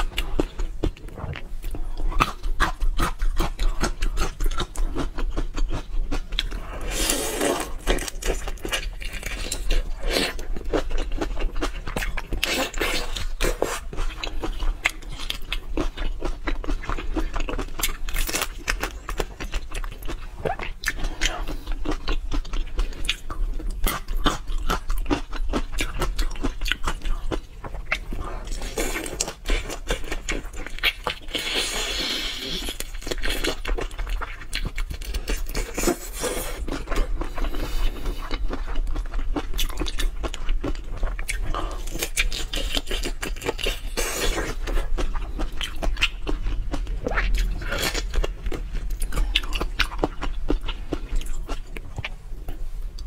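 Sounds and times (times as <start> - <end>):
crunchy chewing of shrimp: 0.0 - 53.0.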